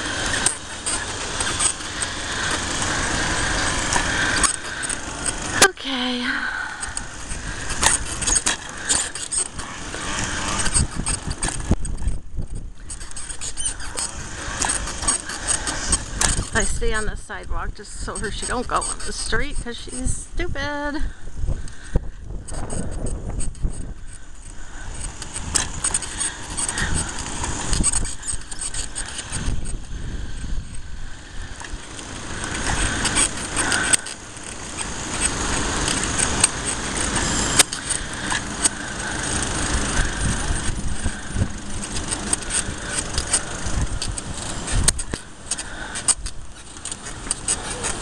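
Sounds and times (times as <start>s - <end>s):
wheels knocking over cracks: 0.0s - 17.0s, 21.5s - 48.0s
bicycle frame and basket rattling: 0.0s - 48.0s.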